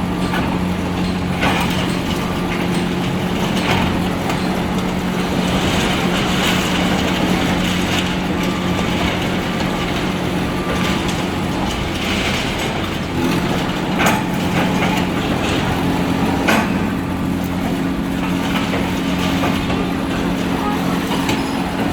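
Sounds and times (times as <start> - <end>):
excavator diesel engine: 0.0 - 21.9.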